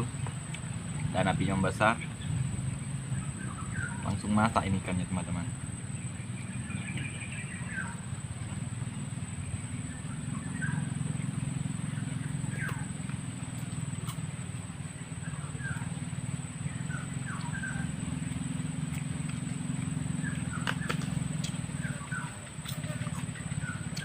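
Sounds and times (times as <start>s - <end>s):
birds chirping: 0.0s - 24.0s
low rumbling background: 0.0s - 24.0s.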